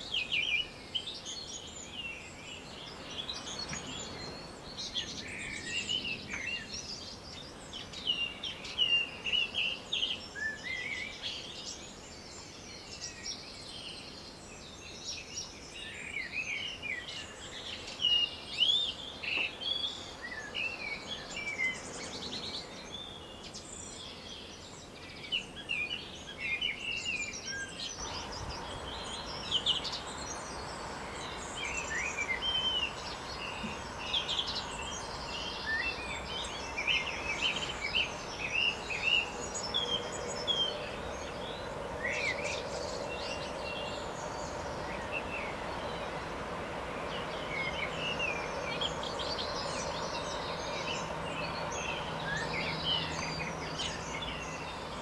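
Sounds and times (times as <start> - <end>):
songbirds chirping: 0.0 - 55.0
steady outdoor hiss: 0.0 - 55.0.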